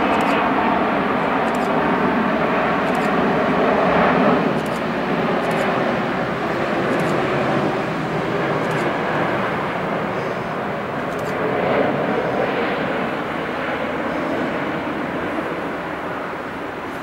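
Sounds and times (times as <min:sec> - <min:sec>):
jet plane passing overhead: 0:00.0 - 0:17.0.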